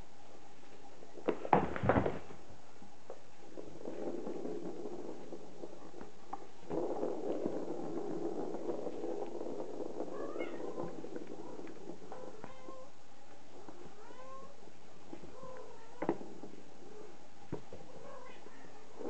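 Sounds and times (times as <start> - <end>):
plastic ball rolling rattle: 0.6 - 19.0.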